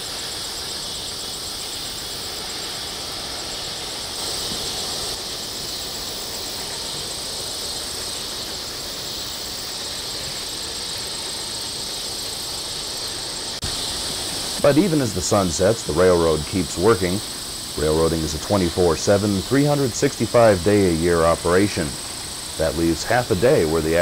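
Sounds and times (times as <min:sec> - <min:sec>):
insects chorus: 0:00.0 - 0:24.0
pulsing insect trill: 0:00.0 - 0:24.0.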